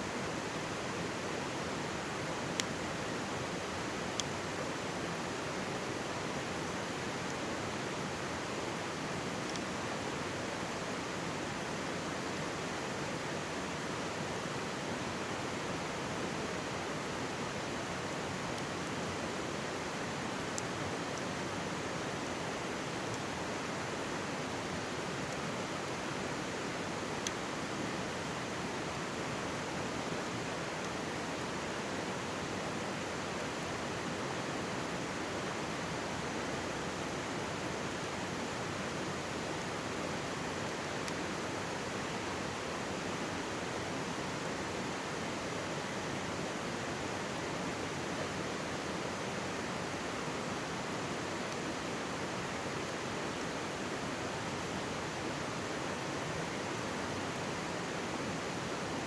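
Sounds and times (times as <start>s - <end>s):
mountain stream rushing: 0.0s - 59.0s
faint campfire crackles: 0.1s - 59.0s.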